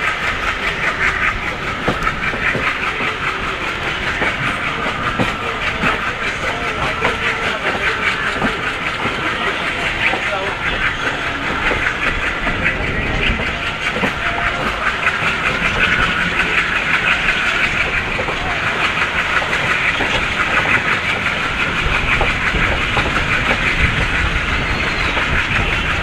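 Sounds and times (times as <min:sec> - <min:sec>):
wheel and rail noise rattling: 0:00.0 - 0:26.0.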